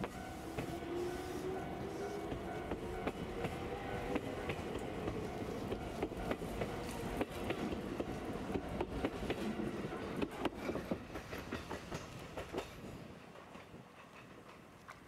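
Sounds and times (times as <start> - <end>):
electric train rumble: 0.0 - 15.0
wheels clicking on rails: 1.8 - 15.0.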